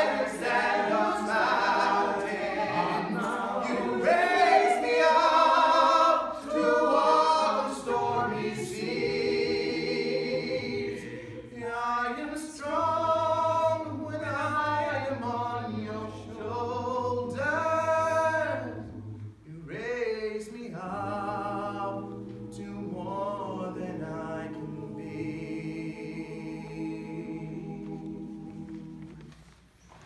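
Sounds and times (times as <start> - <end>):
mixed choir singing in harmony: 0.0 - 29.6.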